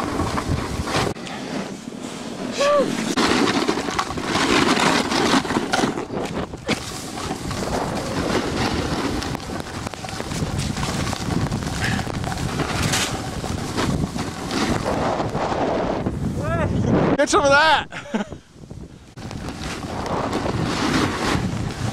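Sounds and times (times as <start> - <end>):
wind rushing over microphone: 0.0 - 21.9.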